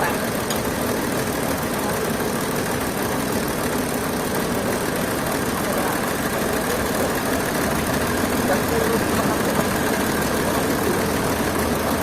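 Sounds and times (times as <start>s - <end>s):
sawmill machinery drone: 0.0s - 12.0s.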